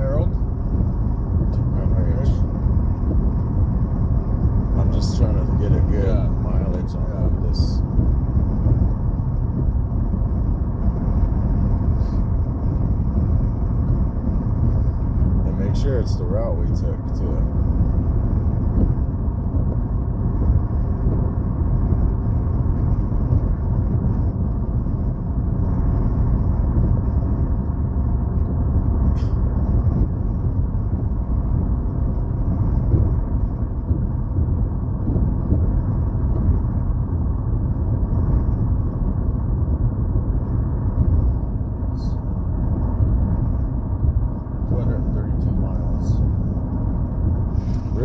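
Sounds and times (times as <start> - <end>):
road and engine noise in car: 0.0 - 48.0.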